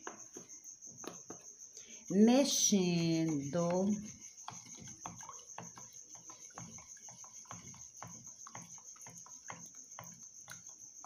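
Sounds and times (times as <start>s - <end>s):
wooden spoon stirring water: 0.0s - 11.0s.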